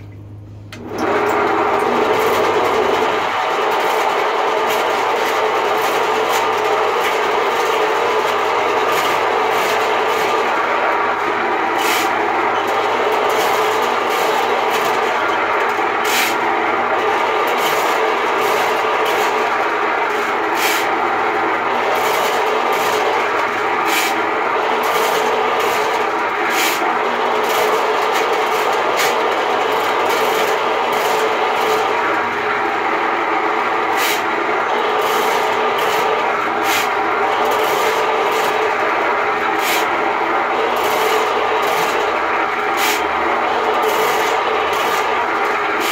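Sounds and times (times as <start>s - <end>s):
sewer machine motor running: 0.0s - 45.9s.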